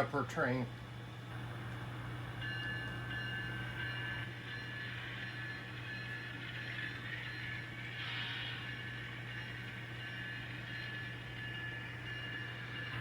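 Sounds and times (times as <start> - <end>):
model locomotive humming: 0.0 - 13.0
thin high whine: 1.2 - 13.0.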